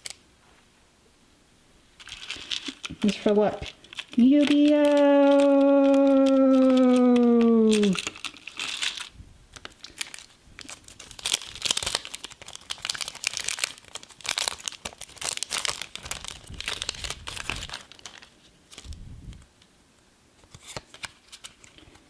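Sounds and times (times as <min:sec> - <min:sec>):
foil pack crinkling and tearing: 0:02.0 - 0:19.5, 0:20.4 - 0:22.0.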